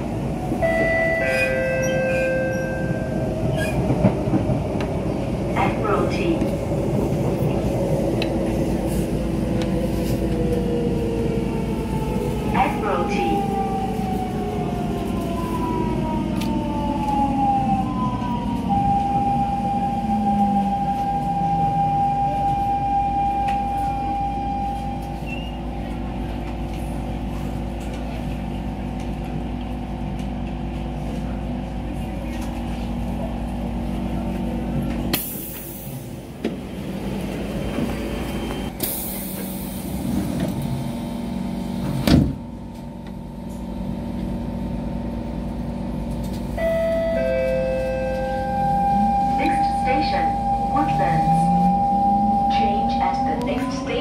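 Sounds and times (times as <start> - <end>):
train inverter whining: 0.0 - 31.2, 32.3 - 54.0
stopped train humming: 0.0 - 54.0.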